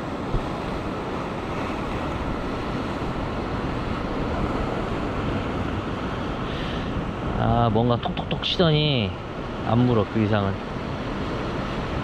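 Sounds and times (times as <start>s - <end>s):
surf washing against rocks: 0.0s - 12.0s.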